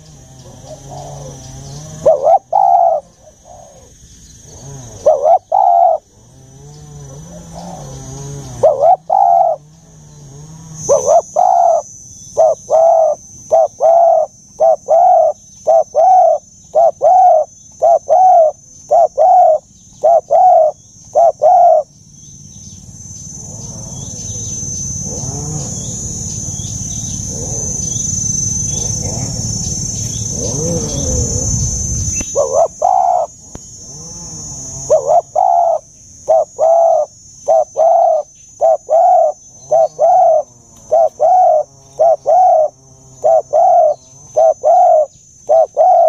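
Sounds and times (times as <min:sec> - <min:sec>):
dove cooing: 0:00.0 - 0:22.0, 0:23.3 - 0:46.0.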